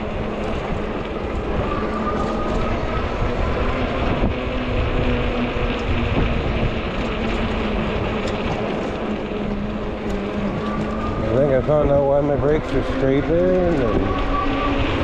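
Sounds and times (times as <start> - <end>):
bicycle rolling noise: 0.0 - 15.0
wind buffeting microphone: 0.0 - 15.0.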